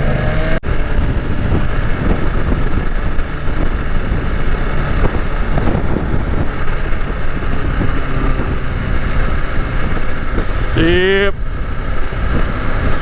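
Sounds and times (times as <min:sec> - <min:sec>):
motorcycle engine running: 0:00.0 - 0:13.0
road rumble: 0:00.0 - 0:13.0
wind buffeting: 0:00.0 - 0:13.0.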